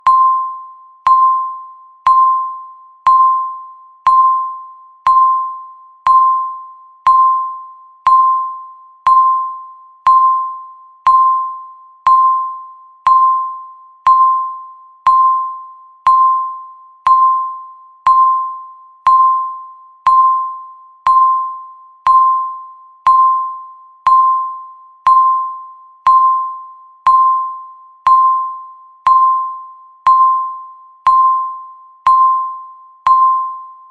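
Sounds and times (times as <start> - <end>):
timer beeps: 0.0 - 33.9.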